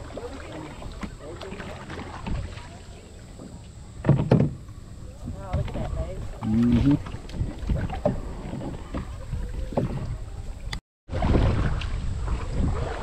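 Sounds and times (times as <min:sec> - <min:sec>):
paddle splashing in water: 0:00.0 - 0:13.0
wind rumbling on microphone: 0:00.8 - 0:13.0.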